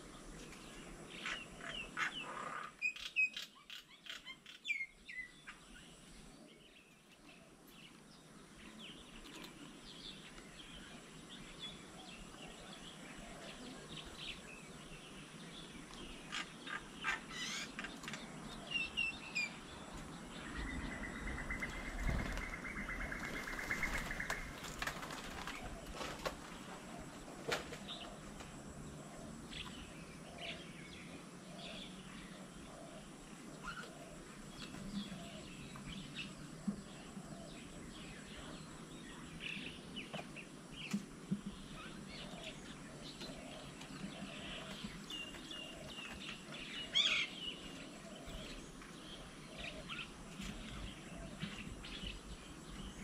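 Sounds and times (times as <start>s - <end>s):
small birds chirping: 0.0s - 53.0s
low evenly spaced bird notes: 2.8s - 26.0s, 26.6s - 53.0s.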